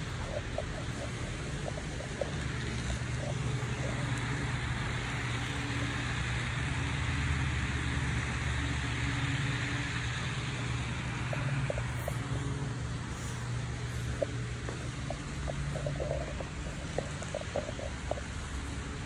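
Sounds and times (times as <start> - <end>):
model trains humming and rumbling: 0.0 - 19.0.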